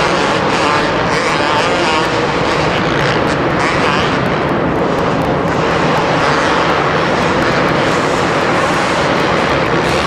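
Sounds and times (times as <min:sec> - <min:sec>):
motorbike engines racing: 0:00.0 - 0:10.0.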